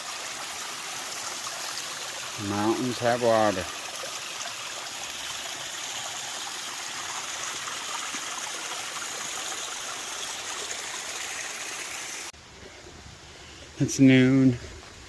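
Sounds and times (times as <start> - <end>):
stream rushing over rocks: 0.0 - 12.4.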